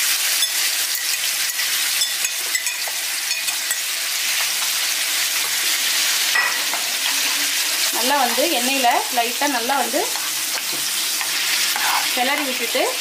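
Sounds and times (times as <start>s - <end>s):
chicken sizzling in oil: 0.0s - 13.0s
metal spoon scraping a pan: 0.2s - 8.4s, 10.0s - 12.8s.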